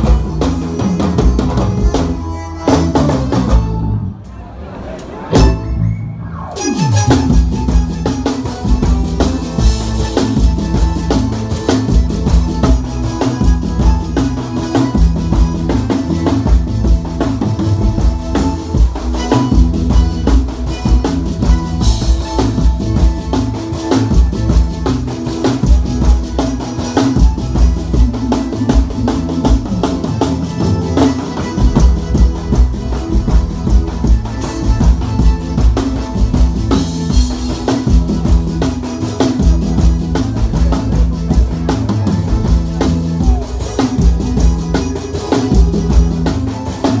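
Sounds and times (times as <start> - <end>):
drum kit beat: 0.0 - 4.4, 5.4 - 5.8, 6.6 - 47.0
live band playing: 0.0 - 47.0.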